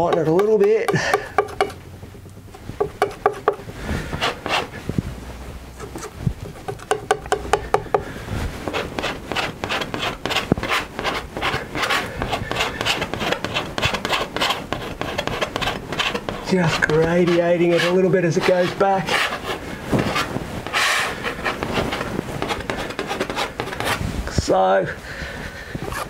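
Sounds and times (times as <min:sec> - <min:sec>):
palette knife scraping paint: 0:00.0 - 0:01.8, 0:02.8 - 0:04.8, 0:05.8 - 0:24.1, 0:25.8 - 0:26.0.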